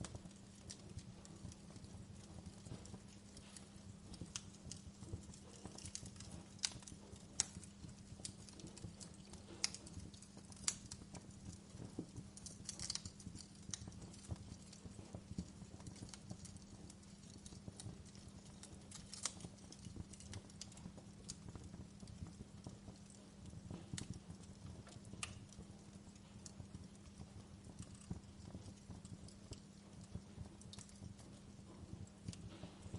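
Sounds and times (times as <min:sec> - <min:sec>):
faint low hum: 0:00.0 - 0:32.9
wood fire crackling: 0:00.0 - 0:32.9.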